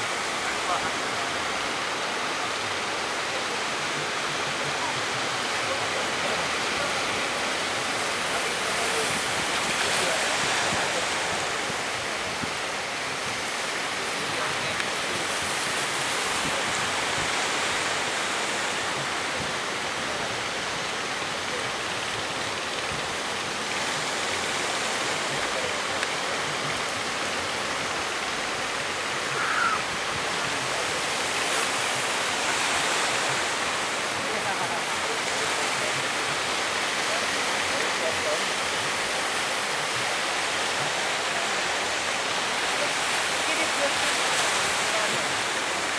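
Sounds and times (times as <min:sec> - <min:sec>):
sea waves breaking: 0:00.0 - 0:45.9.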